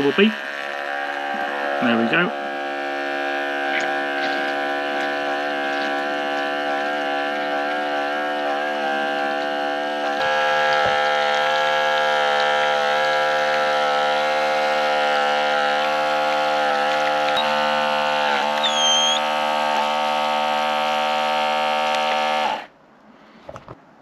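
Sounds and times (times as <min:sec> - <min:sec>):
espresso machine pump buzzing: 0:00.0 - 0:22.7.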